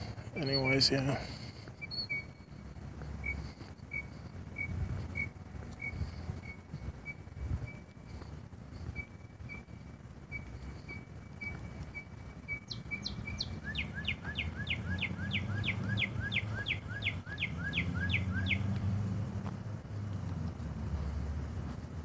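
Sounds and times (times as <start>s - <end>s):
bird singing: 0.0s - 18.8s.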